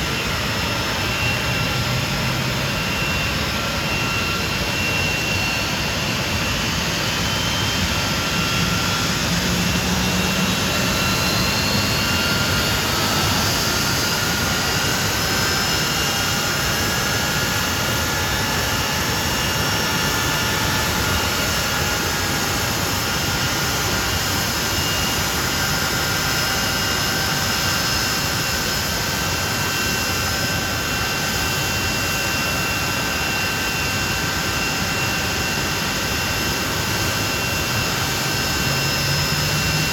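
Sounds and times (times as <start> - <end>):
jet engines rushing: 0.0 - 39.9.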